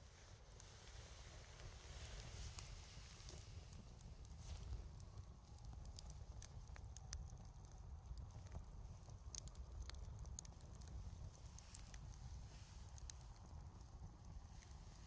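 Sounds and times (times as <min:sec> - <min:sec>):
bonfire crackling and popping: 0:00.0 - 0:15.0
low steady rumble: 0:00.0 - 0:15.0.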